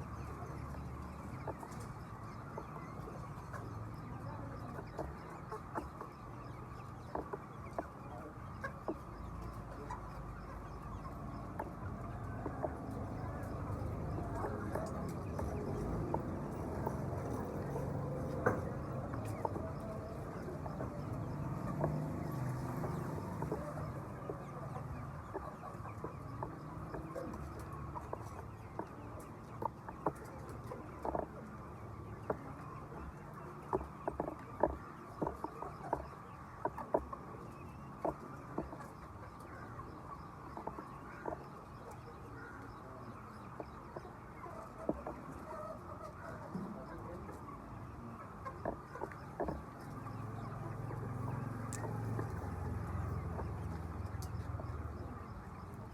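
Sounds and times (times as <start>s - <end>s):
chickens clucking: 0.0s - 55.9s.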